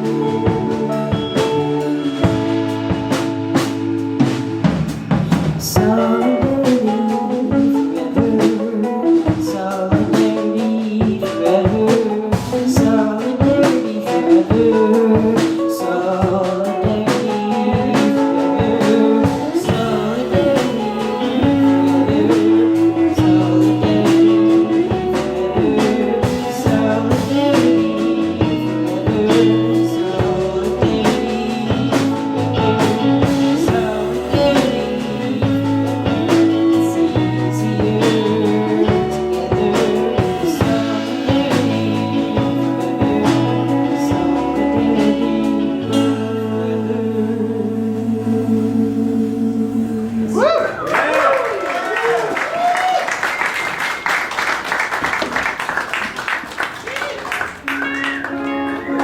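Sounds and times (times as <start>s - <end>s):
drum kit beat: 0.0s - 46.6s, 51.9s - 59.0s
person singing: 0.0s - 53.2s, 56.8s - 59.0s
bass guitar: 0.0s - 59.0s
electric guitars: 0.0s - 59.0s.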